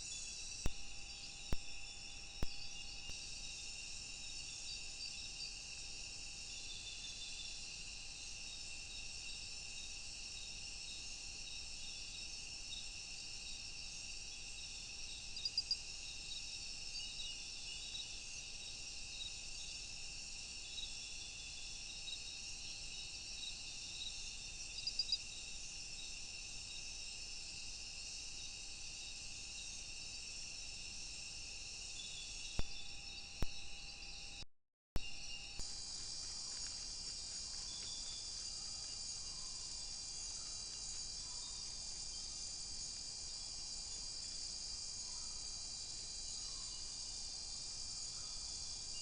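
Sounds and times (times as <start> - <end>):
insects buzzing and trilling: 0.0 - 34.4, 35.0 - 49.0.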